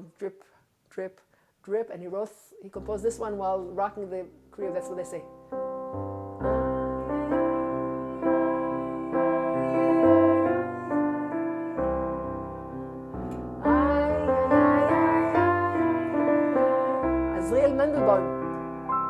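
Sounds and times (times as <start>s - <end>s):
electric keyboard melody: 2.8s - 19.0s.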